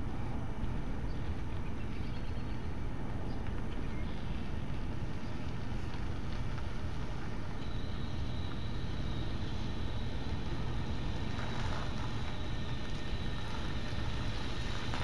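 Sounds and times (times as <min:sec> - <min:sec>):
electric train rumble with whine: 0:00.0 - 0:15.0.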